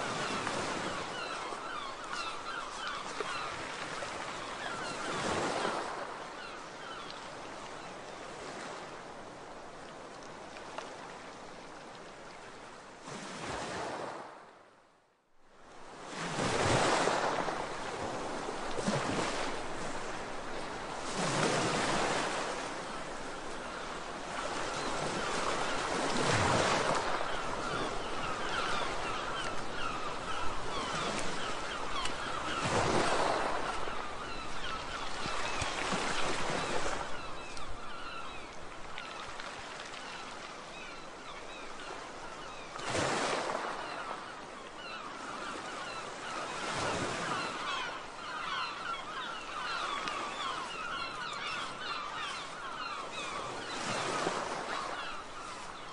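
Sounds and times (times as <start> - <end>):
sea waves washing ashore: 0.0 - 14.5, 15.5 - 55.9.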